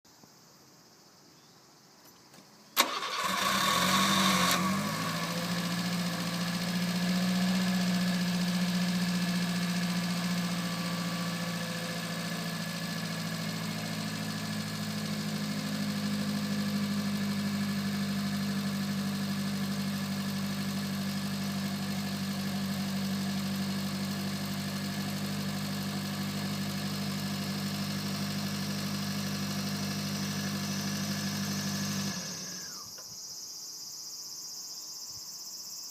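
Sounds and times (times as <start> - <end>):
car engine cranking and idling: 2.8 - 33.0.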